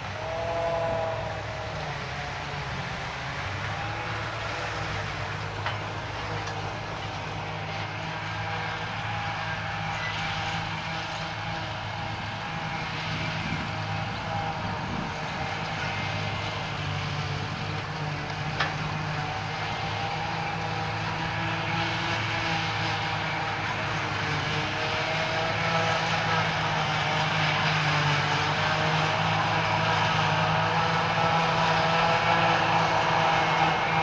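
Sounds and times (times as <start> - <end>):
harvester engine drone: 0.0 - 34.0.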